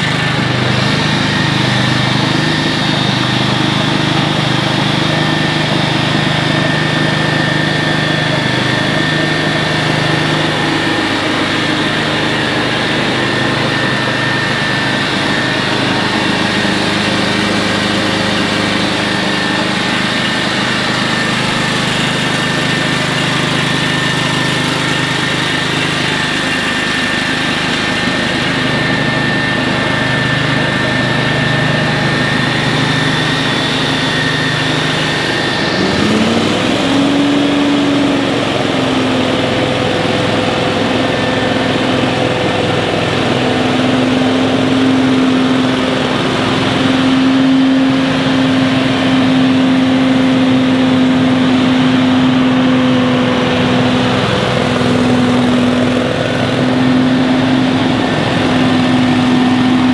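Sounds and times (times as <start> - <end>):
high whine: 0.0 - 59.9
leaf blower engine running: 0.0 - 59.9.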